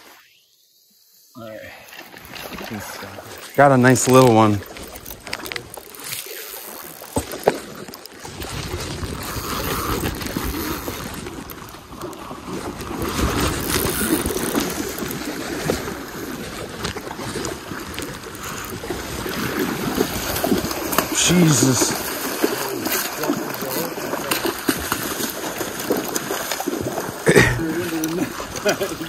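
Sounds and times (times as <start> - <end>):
river current rushing around legs: 1.4 - 29.0.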